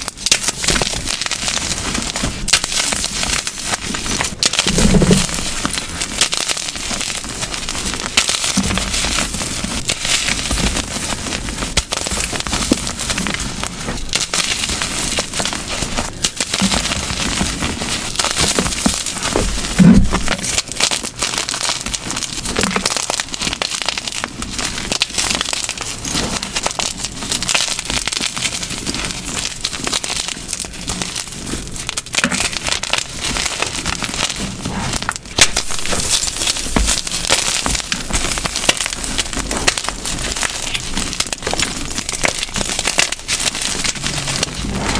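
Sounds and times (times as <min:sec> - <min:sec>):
chalk blocks crunching by hand: 0:00.0 - 0:44.9.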